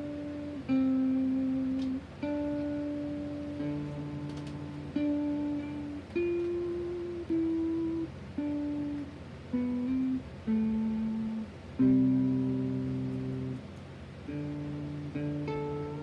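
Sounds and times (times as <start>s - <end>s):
distorted electric guitar notes: 0.0s - 16.0s.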